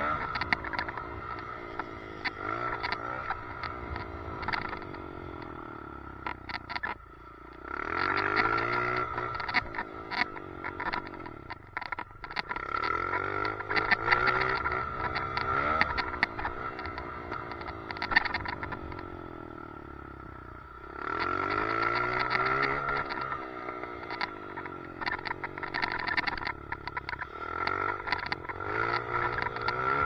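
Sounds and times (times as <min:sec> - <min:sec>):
dirt bike engine revving: 0:00.0 - 0:07.0, 0:07.6 - 0:11.6, 0:12.3 - 0:19.6, 0:20.8 - 0:30.0
rattling clicks: 0:00.1 - 0:19.7, 0:21.1 - 0:30.0.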